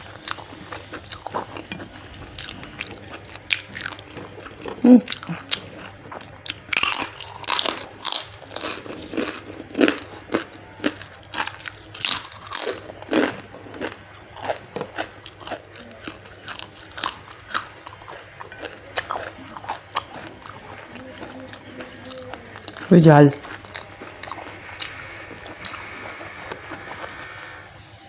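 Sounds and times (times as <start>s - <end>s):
crisp crunching while chewing: 0.0s - 27.3s.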